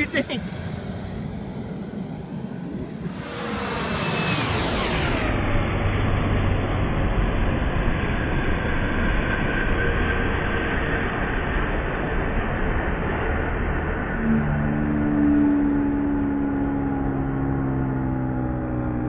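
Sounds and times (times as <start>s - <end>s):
faint jet engine whine: 0.0s - 19.0s
jet engines roaring: 0.0s - 19.0s.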